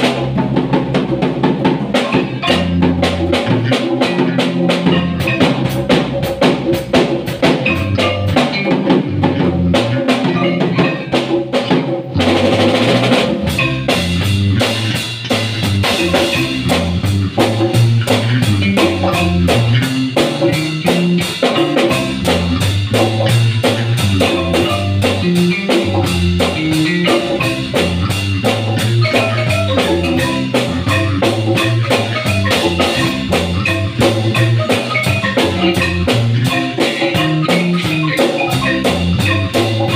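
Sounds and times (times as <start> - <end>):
drum kit and congas beat: 0.0 - 39.9
marimba melody: 0.0 - 39.9.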